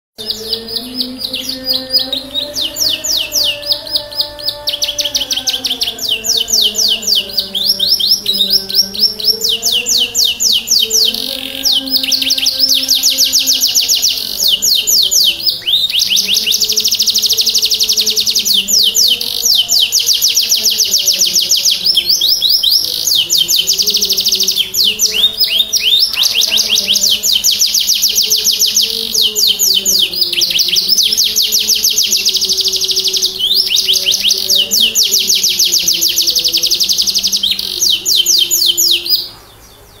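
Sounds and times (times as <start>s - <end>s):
canary singing trills: 0.2s - 40.0s.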